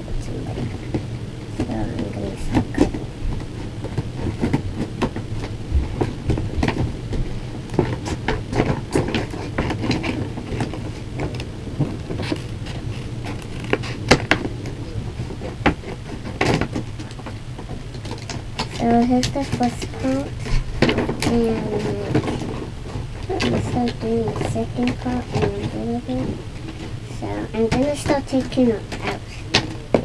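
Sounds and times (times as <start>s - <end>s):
cardboard and plastic rustling: 0.4s - 30.0s.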